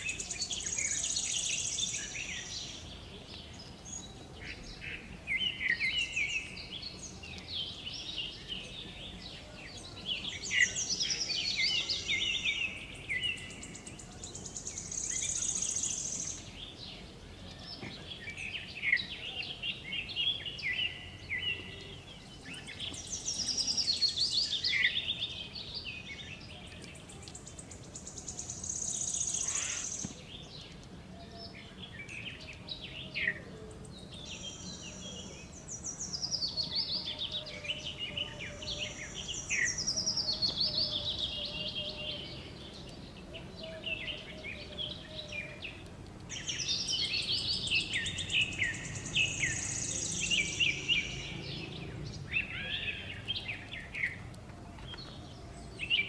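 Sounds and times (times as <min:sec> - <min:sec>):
birds chirping and calling: 0:00.0 - 0:56.0
steady background noise: 0:00.0 - 0:56.0.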